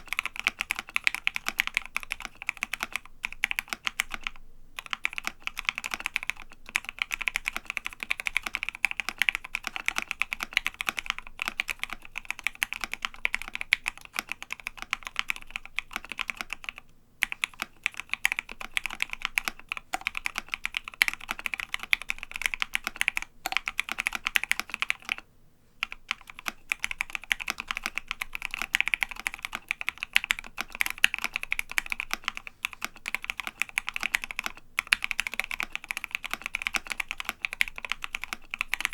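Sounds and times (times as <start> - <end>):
fast mechanical keyboard typing: 0.0 - 25.2, 25.8 - 38.9.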